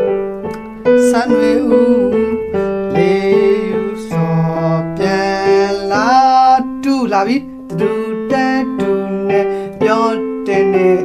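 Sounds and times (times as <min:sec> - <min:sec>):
electronic keyboard melody: 0:00.0 - 0:11.0.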